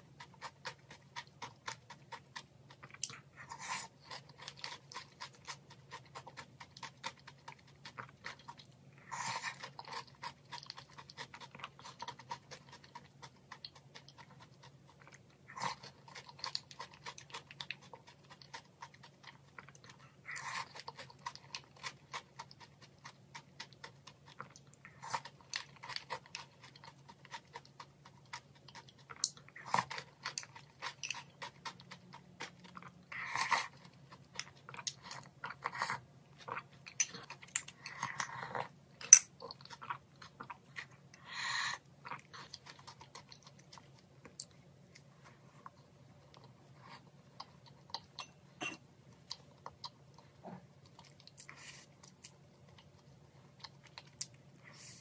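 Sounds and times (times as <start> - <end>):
crunching and chewing cereal: 0.0 - 55.0
faint low hum: 0.0 - 55.0.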